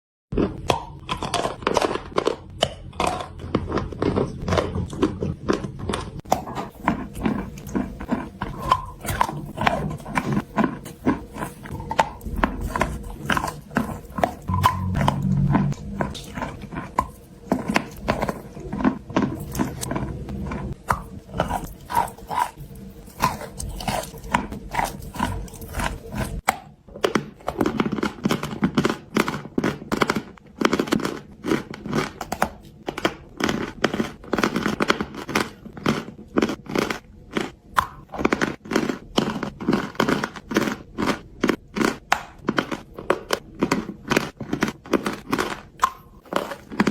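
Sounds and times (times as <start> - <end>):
chewing crunchy clay: 0.3 - 46.9.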